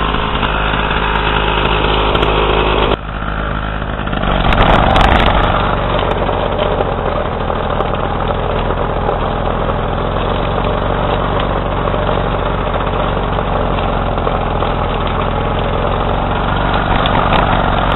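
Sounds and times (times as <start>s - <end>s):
lawn tractor engine running: 0.0s - 17.9s.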